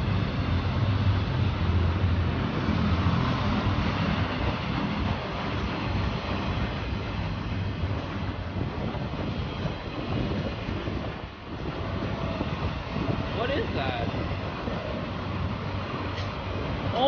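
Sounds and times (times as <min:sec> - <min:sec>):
freight train wheels rumbling on rails: 0:00.0 - 0:17.0.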